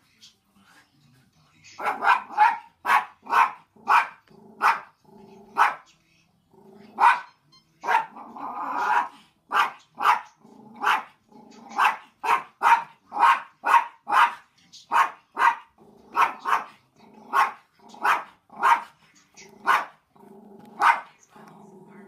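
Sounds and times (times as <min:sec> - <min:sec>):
small dog barking: 0:01.8 - 0:05.9, 0:06.8 - 0:20.0, 0:20.6 - 0:21.2.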